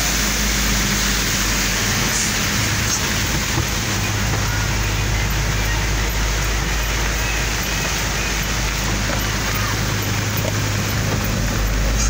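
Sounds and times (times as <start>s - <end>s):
heavy rain on vehicle roof: 0.0s - 12.0s
vehicle engine humming: 0.0s - 12.0s.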